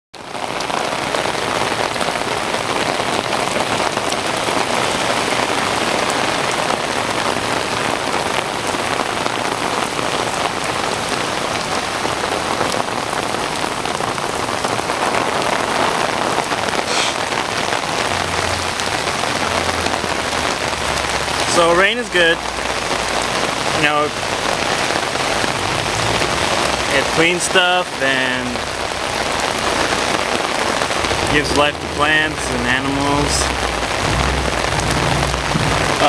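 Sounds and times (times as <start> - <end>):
steady rain falling: 0.2 - 36.0.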